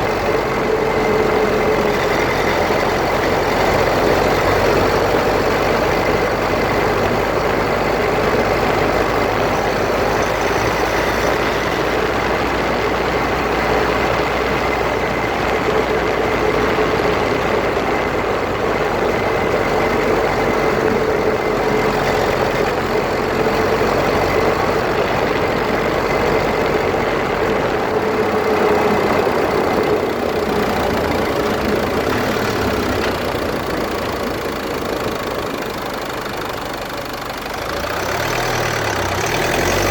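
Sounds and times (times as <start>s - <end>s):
differential grinding whine: 0.0s - 39.9s
mechanical rumble: 0.0s - 39.9s.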